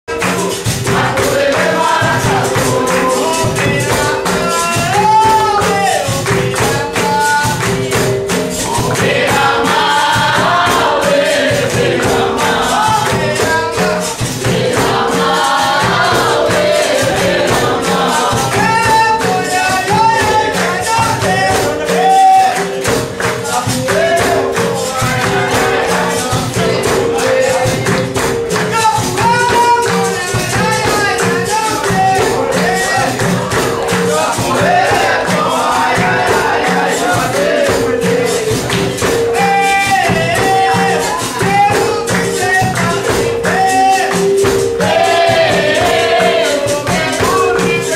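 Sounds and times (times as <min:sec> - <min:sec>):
group singing: 0:00.1 - 0:47.9
hand clapping: 0:00.1 - 0:47.9
hand drum: 0:00.1 - 0:47.9
pandeiro: 0:00.1 - 0:47.9.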